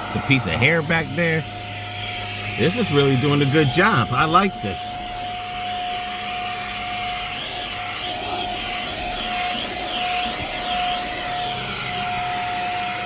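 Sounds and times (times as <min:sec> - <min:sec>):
air duster motor whine: 0:00.0 - 0:13.0.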